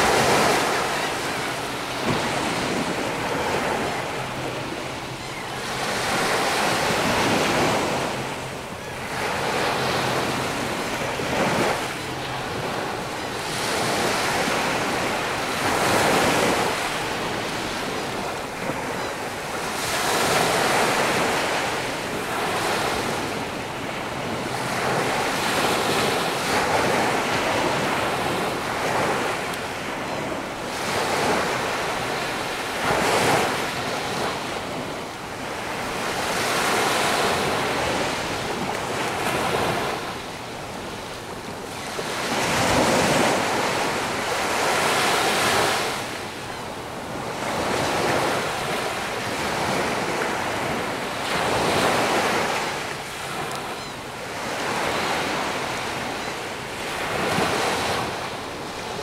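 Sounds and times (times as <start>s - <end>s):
waves breaking on sandy beach: 0.0s - 59.0s.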